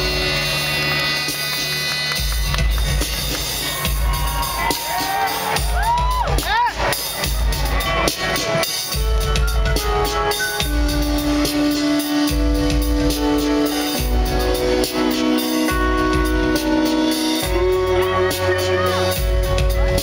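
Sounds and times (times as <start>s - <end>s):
drum kit beat: 0.0s - 20.0s
live rock band playing: 0.0s - 20.0s.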